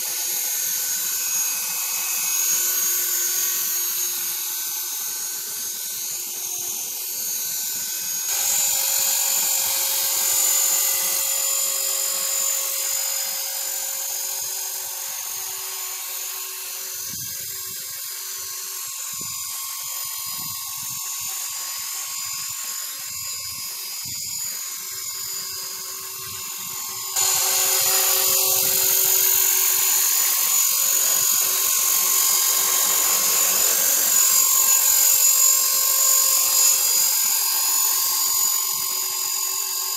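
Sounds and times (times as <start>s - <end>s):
model helicopter rotor whining: 0.0s - 39.9s.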